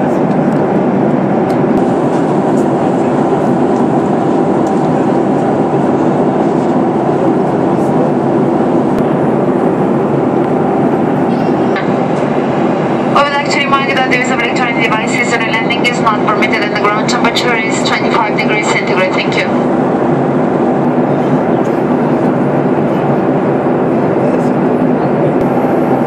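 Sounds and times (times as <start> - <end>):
airplane cabin noise: 0.0 - 26.0.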